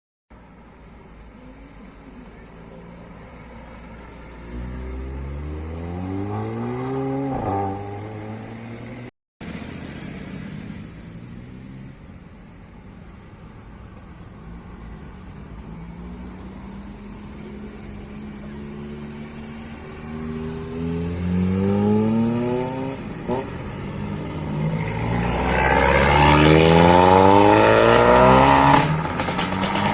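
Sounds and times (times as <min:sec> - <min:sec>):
car engine accelerating: 0:01.8 - 0:12.0, 0:15.4 - 0:29.9.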